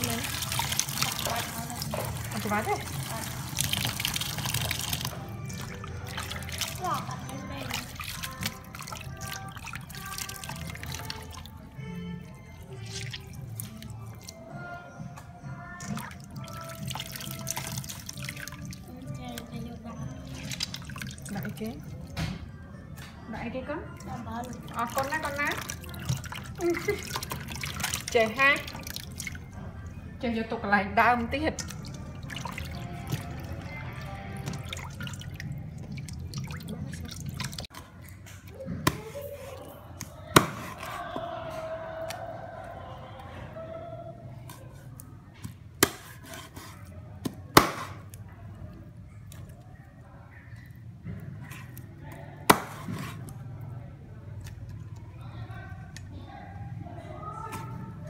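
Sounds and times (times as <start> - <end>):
water splashing in a steel bowl: 0.0 - 14.8, 15.6 - 22.3, 23.9 - 30.0, 31.2 - 43.3, 48.8 - 56.2
background music: 0.0 - 49.5.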